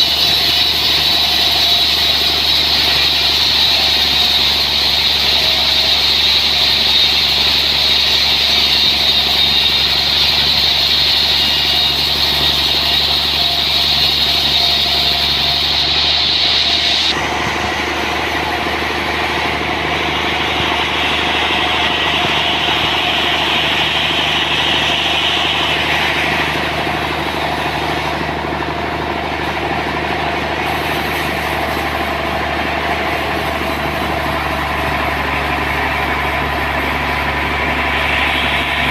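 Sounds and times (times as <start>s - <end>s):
sawmill machine drone: 0.0s - 38.9s.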